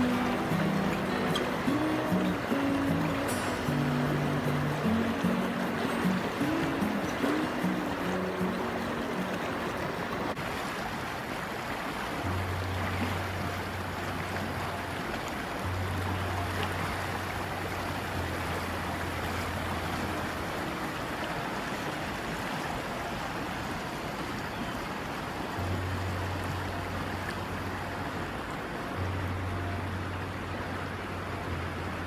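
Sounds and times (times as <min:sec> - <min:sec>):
river water flowing: 0:00.0 - 0:32.0.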